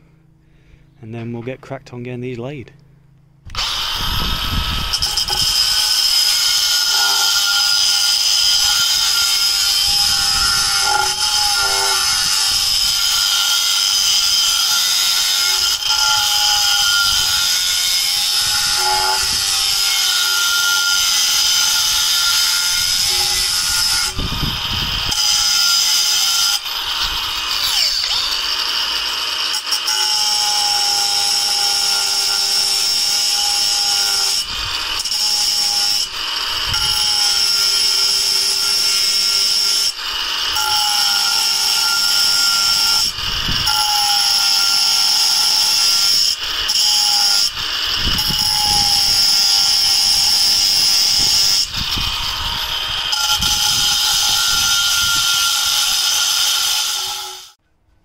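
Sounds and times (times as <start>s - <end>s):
angle grinder cutting stone: 3.5s - 57.6s.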